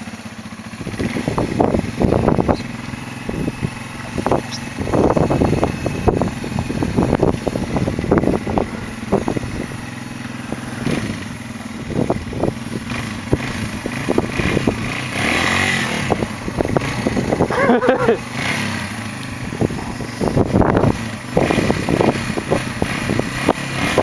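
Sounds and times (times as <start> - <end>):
dirt bike engine under load: 0.7 - 24.0.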